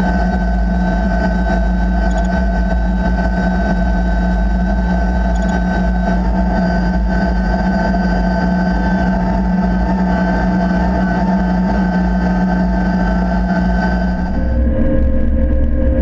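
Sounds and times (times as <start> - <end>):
combine harvester engine droning: 0.0 - 14.8.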